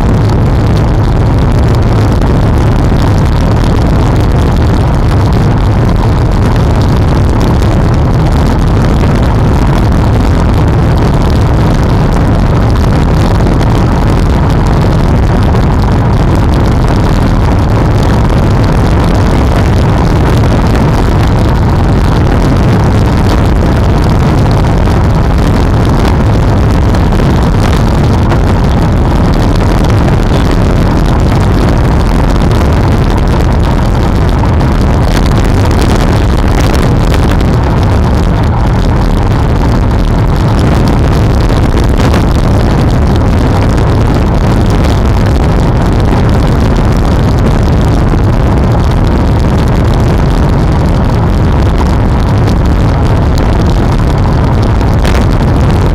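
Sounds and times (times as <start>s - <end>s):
road noise: 0.0s - 55.9s
wind buffeting microphone: 0.0s - 55.9s.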